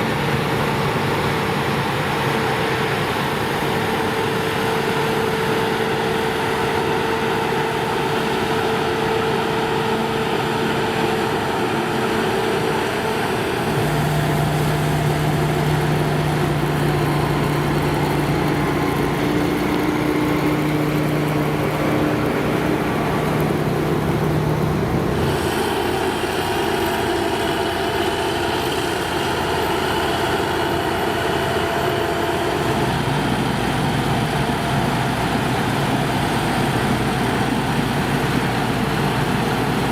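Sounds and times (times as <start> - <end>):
combine harvester diesel engines: 0.0 - 39.9.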